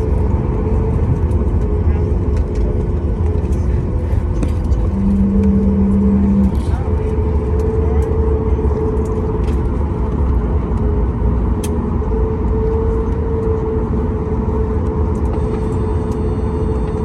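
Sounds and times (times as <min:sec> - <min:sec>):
jet engine rumble and whine: 0:00.0 - 0:17.0.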